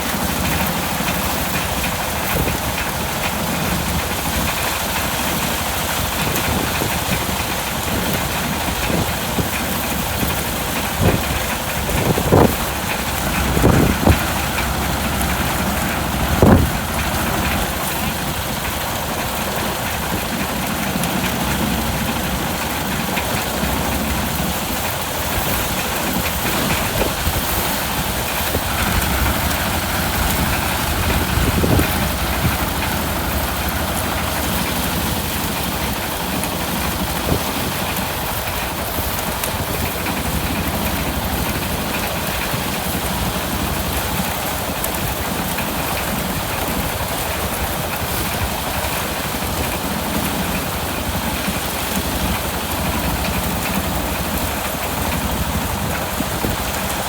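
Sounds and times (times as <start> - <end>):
harvesting machine engine running: 0.0 - 57.0.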